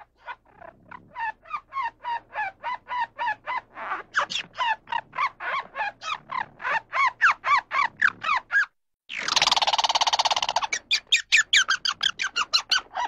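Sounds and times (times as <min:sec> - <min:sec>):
animal making harsh calls: 0:00.2 - 0:13.0.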